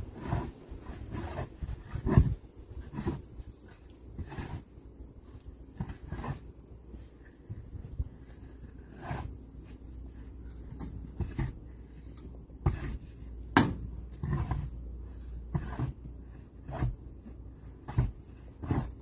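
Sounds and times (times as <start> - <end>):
crunching and scraping in snow: 0.0 - 19.0.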